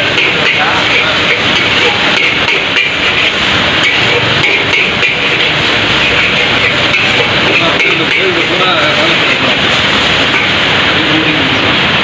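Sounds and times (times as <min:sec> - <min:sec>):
metal spatula scraping in wok: 0:00.0 - 0:10.8
loud frying hiss: 0:00.0 - 0:12.0.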